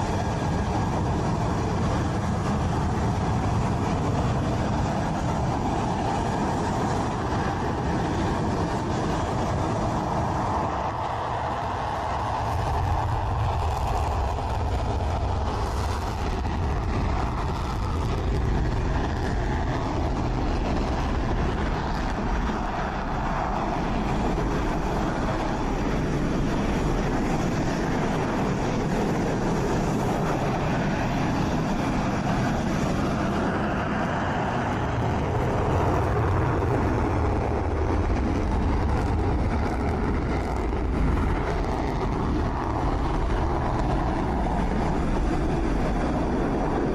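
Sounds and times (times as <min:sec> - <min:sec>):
engine low rumble: 0:00.0 - 0:46.9.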